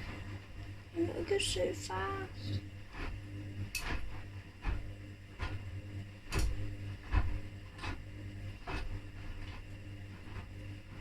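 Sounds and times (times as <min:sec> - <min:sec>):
washing machine hum: 0:00.0 - 0:11.0.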